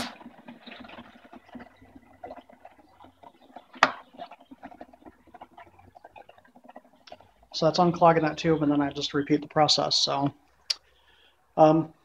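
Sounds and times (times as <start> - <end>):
gas bubbling through beer: 0.0 - 12.0.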